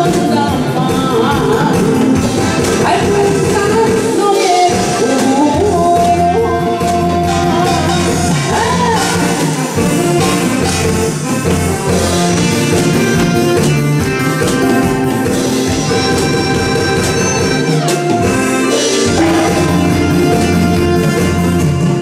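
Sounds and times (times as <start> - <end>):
instrumental song accompaniment: 0.0 - 22.0.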